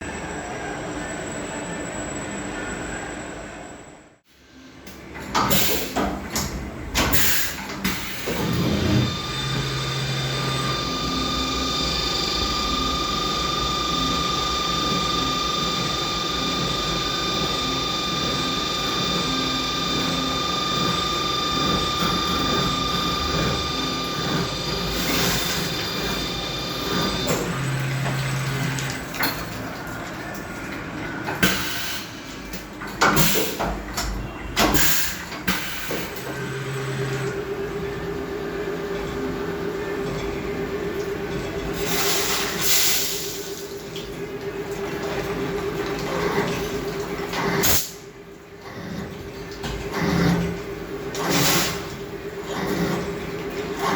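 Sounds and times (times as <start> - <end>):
spindle whine and machining noise: 0.0 - 33.0, 35.4 - 53.9.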